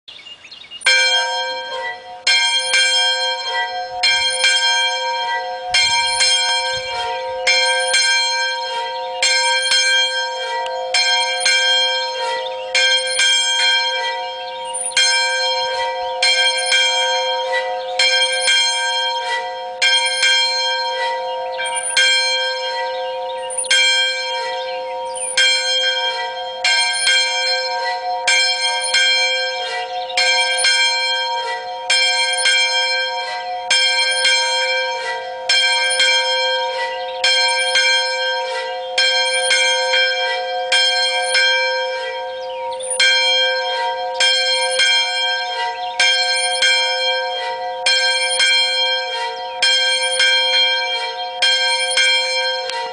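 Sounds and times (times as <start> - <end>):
church bell ringing: 0.8 - 52.9.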